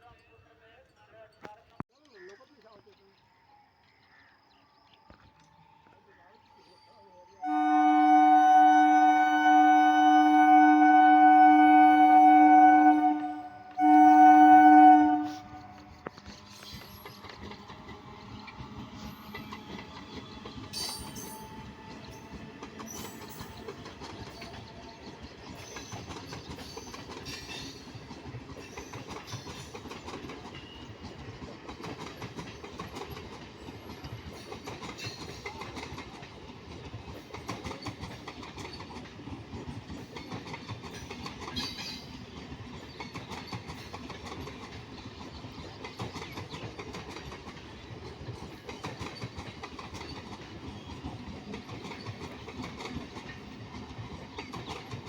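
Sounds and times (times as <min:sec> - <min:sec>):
train wheels clattering on rails: 0:07.4 - 0:55.0.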